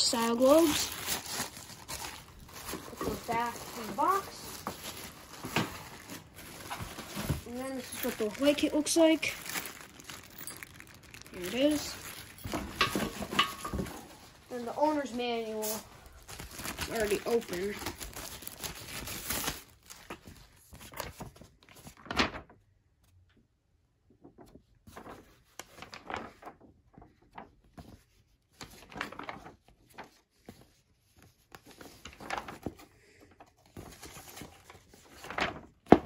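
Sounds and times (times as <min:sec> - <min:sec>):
paper pages turning: 0:00.0 - 0:23.2, 0:24.3 - 0:36.0.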